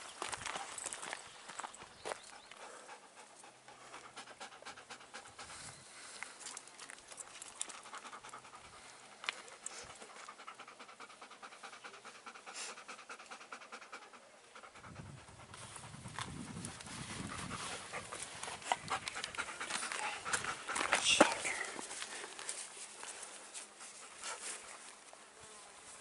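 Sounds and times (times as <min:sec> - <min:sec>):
dog panting: 0:02.1 - 0:06.6, 0:07.2 - 0:25.0.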